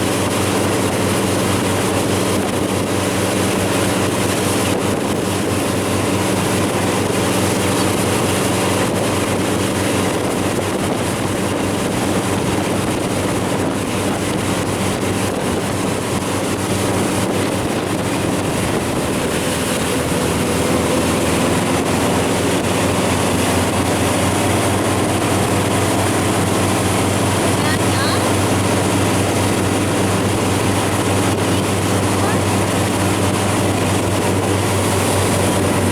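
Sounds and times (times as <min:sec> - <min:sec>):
watercraft engine running: 0:00.0 - 0:35.9
wind rushing over microphone: 0:00.0 - 0:35.9.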